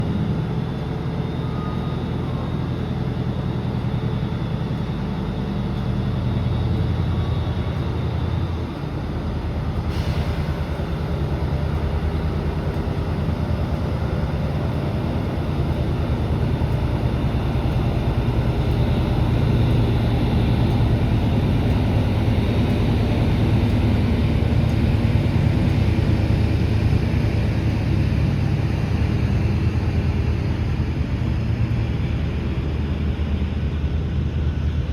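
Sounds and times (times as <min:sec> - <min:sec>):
locomotive engine droning: 0:00.0 - 0:34.9.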